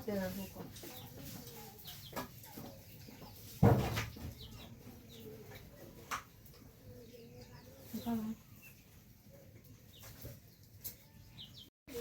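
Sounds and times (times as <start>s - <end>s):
chickens clucking softly: 0.2s - 12.0s.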